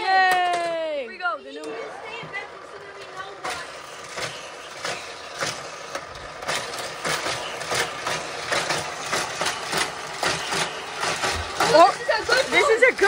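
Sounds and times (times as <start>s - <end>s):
motorized booster whirring: 0.0s - 13.0s
toy cars clattering on track: 0.0s - 13.0s.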